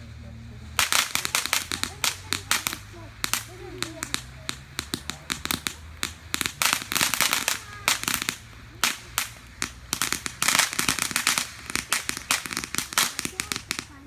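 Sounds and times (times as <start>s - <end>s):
firecrackers popping: 0.0s - 14.0s.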